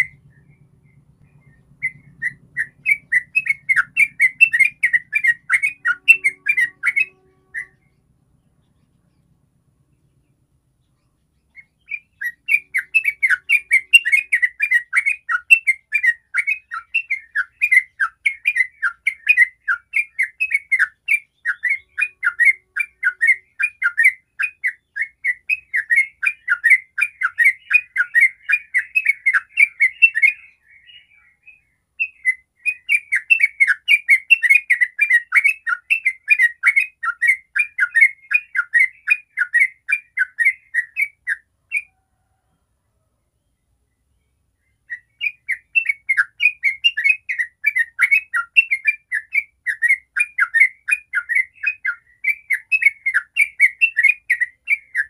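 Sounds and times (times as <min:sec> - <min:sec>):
bulbul singing: 0:00.0 - 0:42.4, 0:43.4 - 0:55.0.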